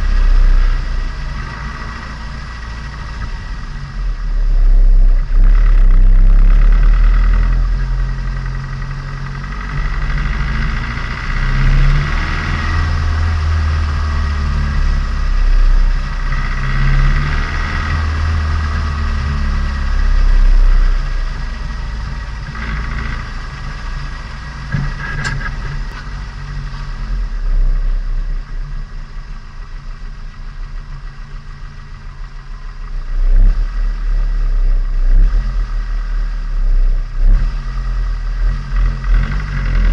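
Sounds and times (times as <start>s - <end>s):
car engine revving while driving: 0.0s - 28.8s, 32.0s - 39.9s.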